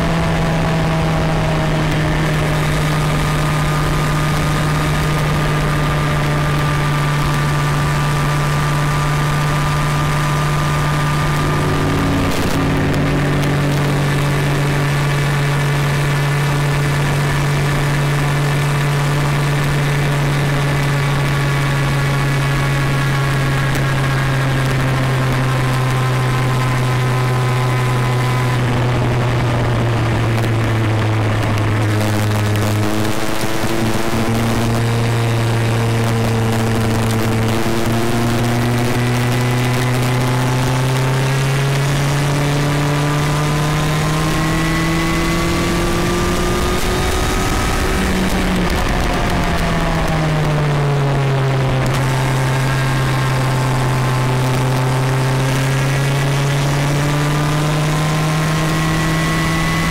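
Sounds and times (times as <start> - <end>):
road and wind noise: 0.0 - 59.9
vehicle engine driving: 0.0 - 59.9.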